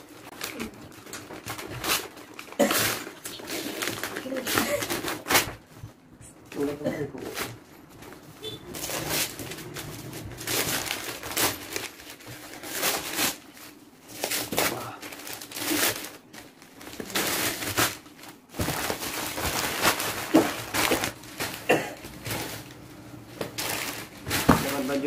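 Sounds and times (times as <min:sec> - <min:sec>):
wrapping paper rustling and tearing: 0:00.0 - 0:25.0.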